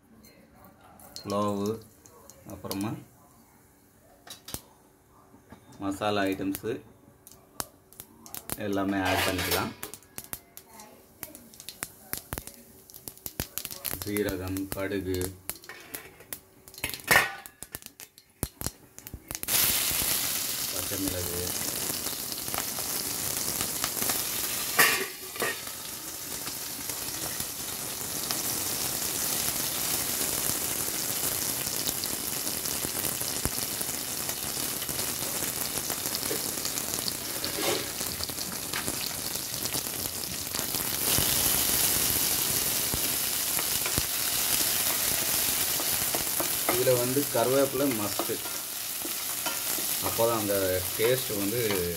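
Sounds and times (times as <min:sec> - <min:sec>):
spices sizzling in hot oil: 0:01.2 - 0:03.2, 0:05.8 - 0:51.9.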